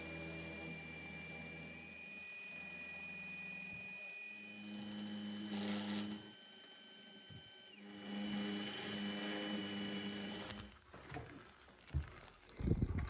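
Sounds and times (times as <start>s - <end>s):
electric motor humming: 0.0s - 10.8s.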